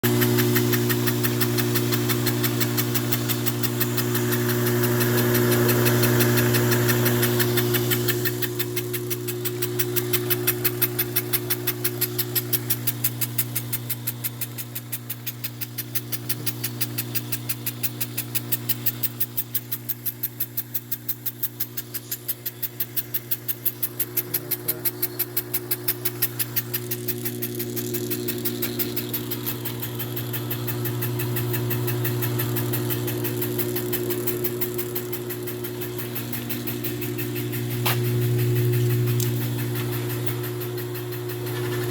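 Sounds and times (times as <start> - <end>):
electric motor hum: 0.0 - 41.9.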